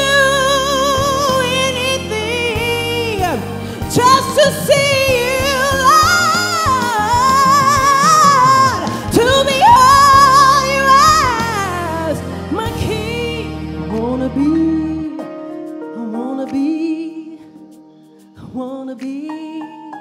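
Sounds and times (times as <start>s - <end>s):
woman singing gospel: 0.0s - 15.3s, 15.9s - 17.6s, 18.4s - 20.0s
instrumental backing chords: 0.0s - 20.0s.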